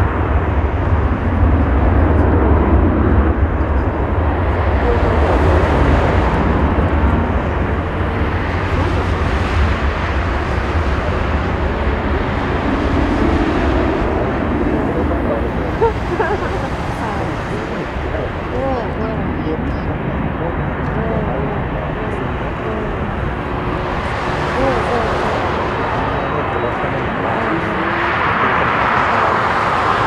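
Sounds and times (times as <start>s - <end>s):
jet engines at take-off thrust: 0.0s - 30.0s.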